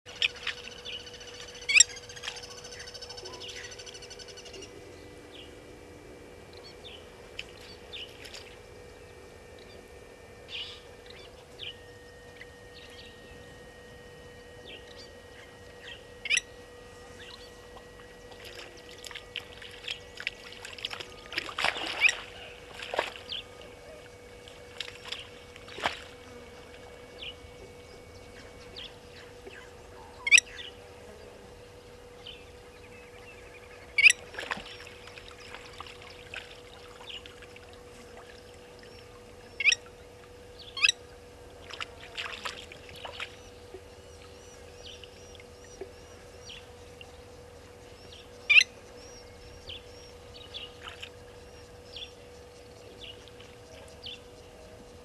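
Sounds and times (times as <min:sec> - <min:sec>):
steady low hum: 0:00.0 - 0:55.0
birds whistling: 0:00.1 - 0:05.6, 0:06.5 - 0:30.8, 0:32.0 - 0:37.4, 0:38.8 - 0:41.3, 0:43.0 - 0:54.5.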